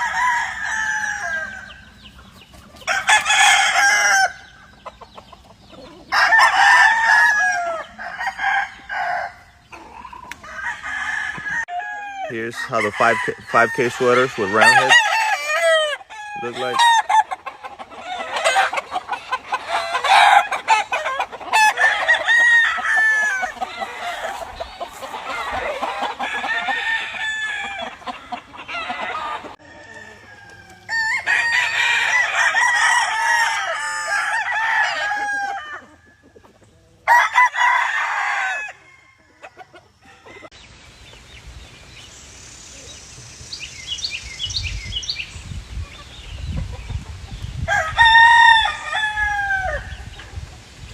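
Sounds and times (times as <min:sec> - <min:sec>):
roosters crowing and clucking: 0:00.0 - 0:50.9.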